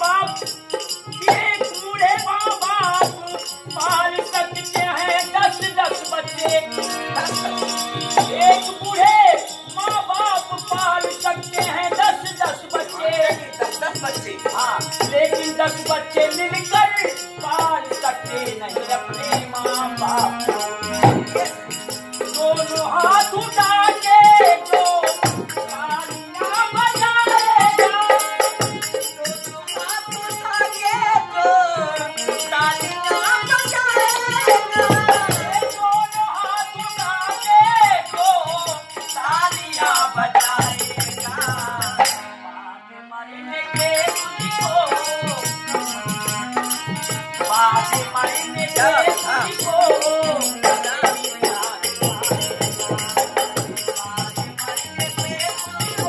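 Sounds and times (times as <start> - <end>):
dholak drum beat: 0.0 - 42.2, 43.7 - 56.0
harmonium: 0.0 - 56.0
men singing: 0.0 - 56.0.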